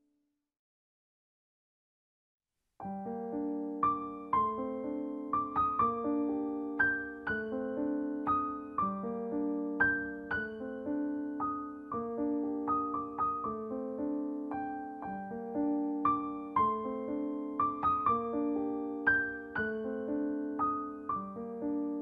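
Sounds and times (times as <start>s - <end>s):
solo piano music: 2.8s - 22.0s.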